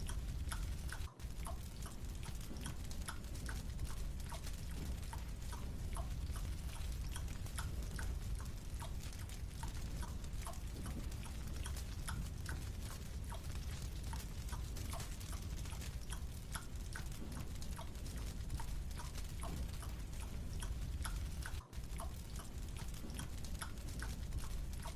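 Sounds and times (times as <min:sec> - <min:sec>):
steady low rumble: 0:00.0 - 0:24.9.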